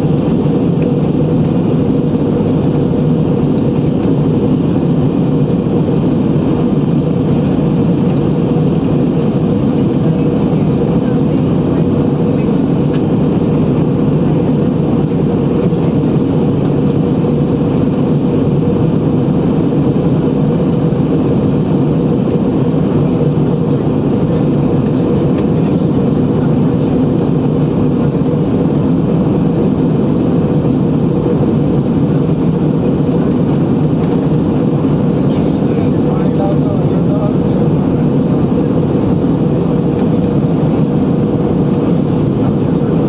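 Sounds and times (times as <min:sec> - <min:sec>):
aircraft cabin engine noise: 0:00.0 - 0:43.0.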